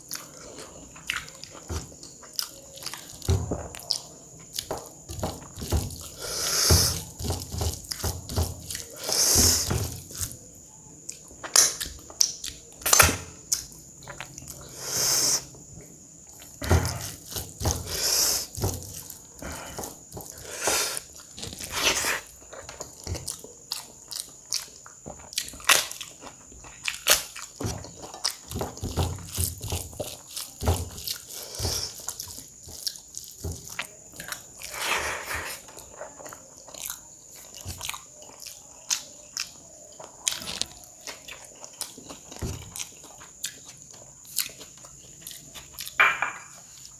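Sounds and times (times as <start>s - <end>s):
food crunching: 0.0s - 14.8s, 15.4s - 46.9s
person chewing food: 0.0s - 46.9s.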